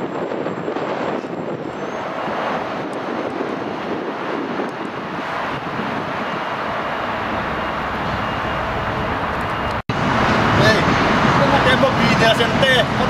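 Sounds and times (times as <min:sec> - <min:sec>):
ferry engines roaring: 0:00.0 - 0:13.0
wind buffeting microphone: 0:00.0 - 0:13.0.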